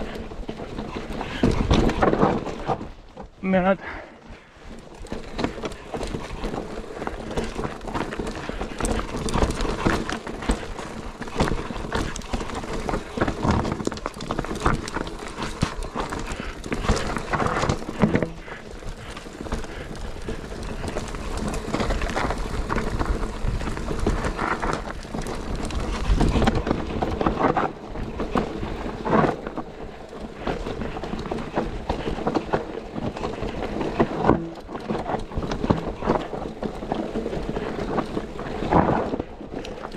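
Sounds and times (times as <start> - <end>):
bike clattering and rattling: 0.0 - 39.9
bike tyres rolling over rocks: 0.0 - 39.9.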